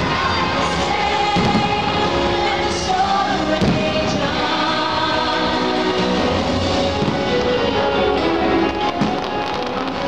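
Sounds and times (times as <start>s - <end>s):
choir singing: 0.0s - 8.8s.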